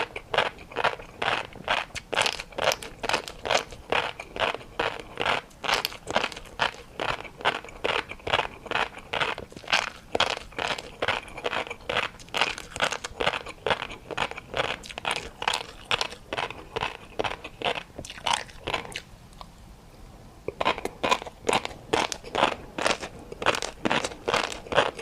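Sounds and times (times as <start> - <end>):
chewing crunchy food: 0.0 - 19.6, 20.5 - 25.0.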